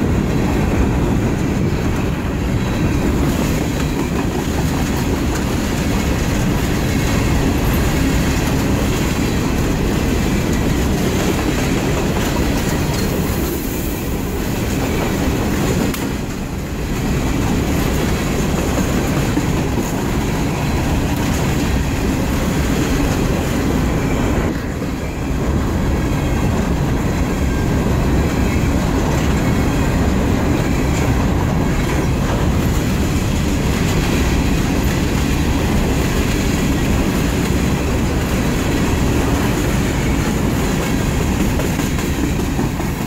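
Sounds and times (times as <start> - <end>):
freight train wheels rumbling on rails: 0.0 - 43.0.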